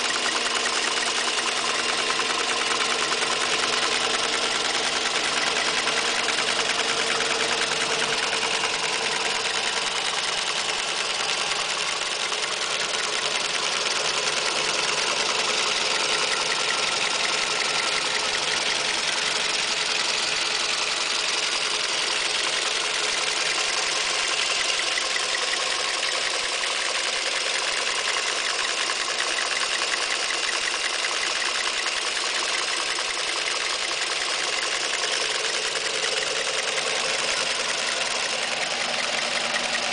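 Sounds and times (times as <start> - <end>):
car engine idling: 0.0 - 39.9
fast even engine ticking: 0.0 - 39.9.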